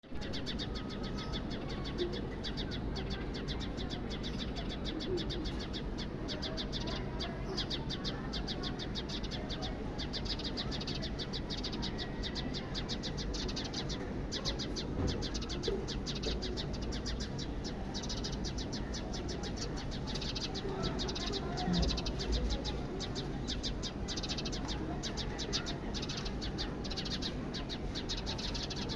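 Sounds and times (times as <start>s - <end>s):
sparrows chirping: 0.0s - 28.9s.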